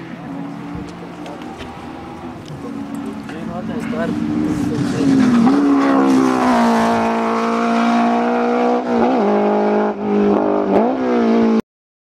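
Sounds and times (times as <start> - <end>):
racing car engine at speed: 0.0 - 11.6.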